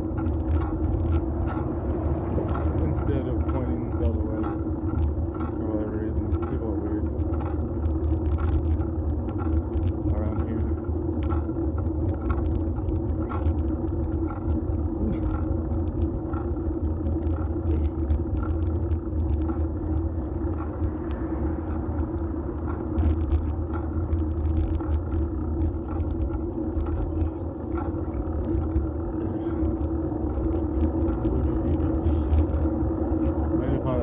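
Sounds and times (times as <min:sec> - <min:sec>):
bike clicks and rattles: 0:00.0 - 0:21.0, 0:21.7 - 0:34.0
bicycle tyres rumbling on road: 0:00.0 - 0:34.0.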